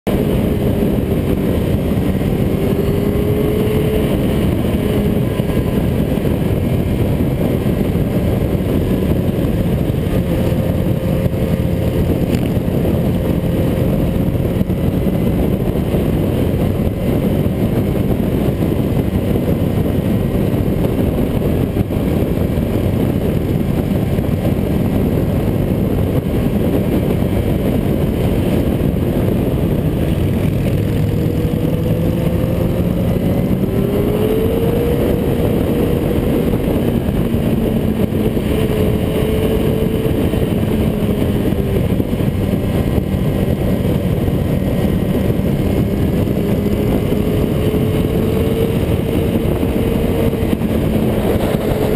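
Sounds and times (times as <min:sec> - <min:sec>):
motorcycle engine drone: 0:00.0 - 0:51.9
wind noise: 0:00.0 - 0:51.9.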